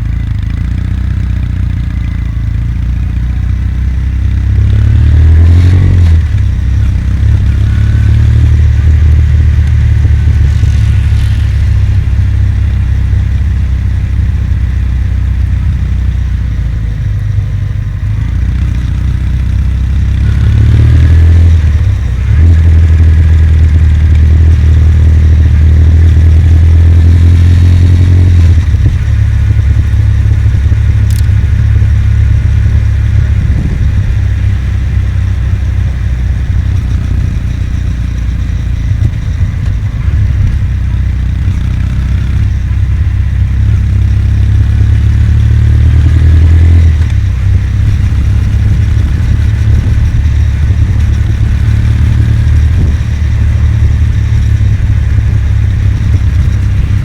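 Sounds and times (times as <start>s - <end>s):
motorcycle engine running: 0.0s - 57.0s
wind rumble on microphone: 4.2s - 14.6s, 18.0s - 57.0s.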